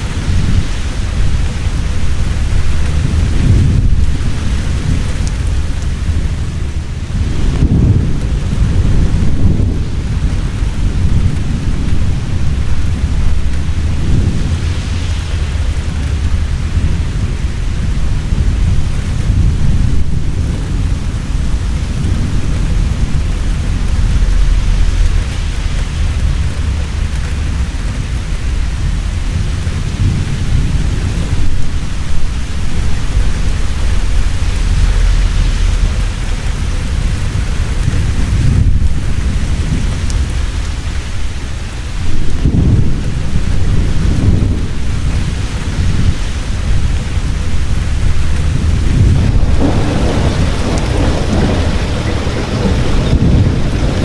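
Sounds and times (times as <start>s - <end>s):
heavy rain falling: 0.0s - 54.0s
rolling thunder: 0.0s - 54.0s.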